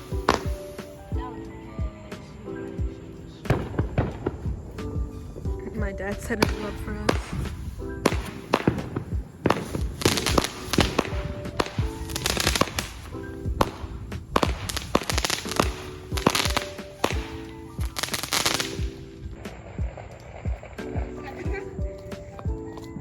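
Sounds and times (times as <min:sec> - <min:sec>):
fireworks cracking and popping: 0:00.0 - 0:01.2, 0:03.4 - 0:22.5
background music: 0:00.0 - 0:23.0.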